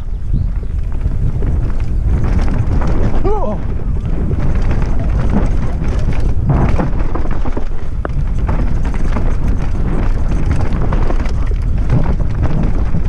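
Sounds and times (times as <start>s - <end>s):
bike rattling and knocking: 0.0s - 13.0s
wind rumble on microphone: 0.0s - 13.0s
tyres on loose stones: 0.3s - 13.0s.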